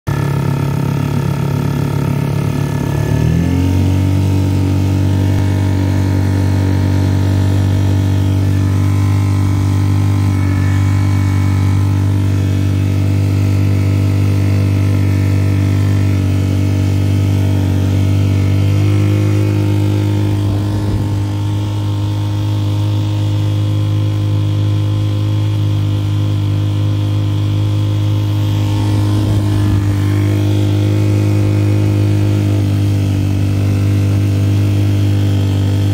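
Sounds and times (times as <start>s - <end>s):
outboard motor running: 0.1s - 35.9s.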